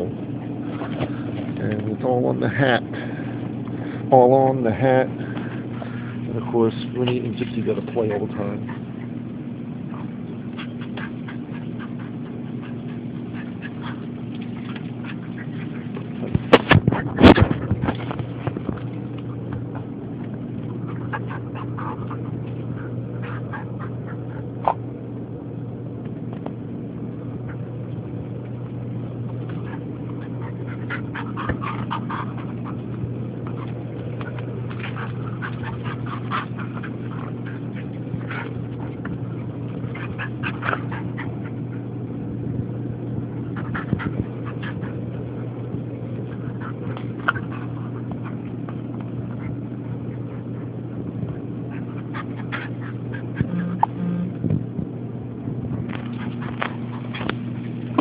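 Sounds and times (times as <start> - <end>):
dogs growling: 0.0 - 58.0
steady low hum: 0.0 - 58.0.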